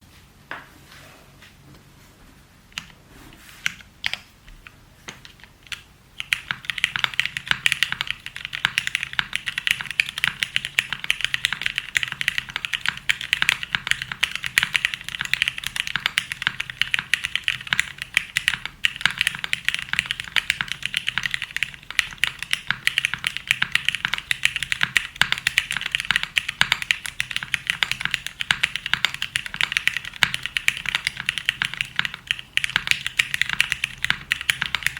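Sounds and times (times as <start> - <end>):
sharp clicking: 3.7 - 34.9.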